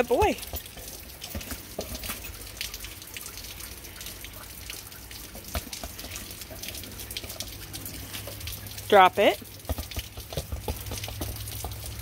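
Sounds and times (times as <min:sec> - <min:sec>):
water dripping and splashing: 0:00.0 - 0:12.0.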